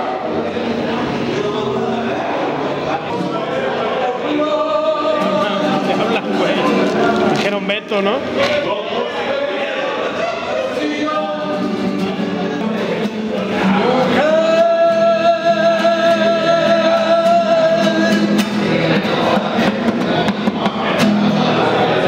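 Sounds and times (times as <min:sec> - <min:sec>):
acoustic guitar strumming: 0:00.0 - 0:22.0
man singing: 0:01.6 - 0:09.3, 0:10.4 - 0:22.0.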